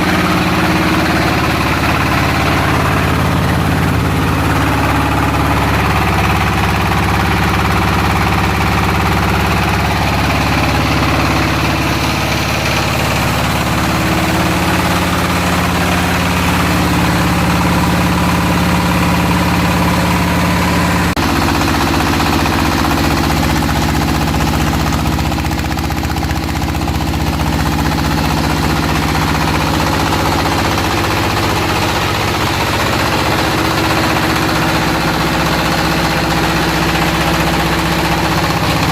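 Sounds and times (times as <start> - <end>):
extruder machine drone: 0.0 - 38.9.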